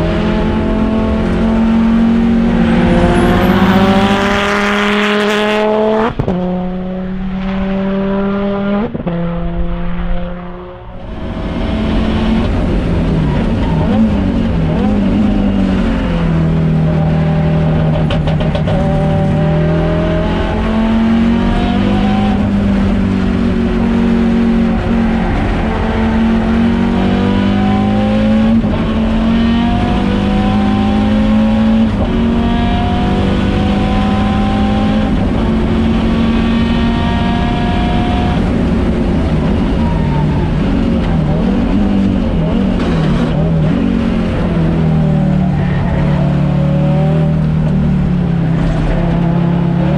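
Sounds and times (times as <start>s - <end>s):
rally car engine revving through shifts: 0.0s - 49.9s.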